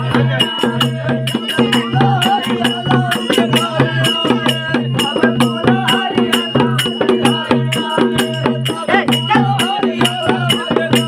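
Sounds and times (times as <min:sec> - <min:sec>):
sharp percussion strikes: 0:00.0 - 0:11.0.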